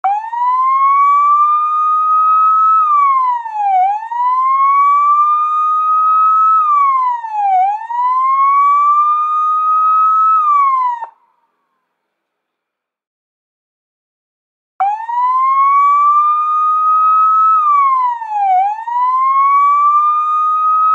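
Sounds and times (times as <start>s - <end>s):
police siren wailing: 0.0s - 11.2s, 14.8s - 20.9s.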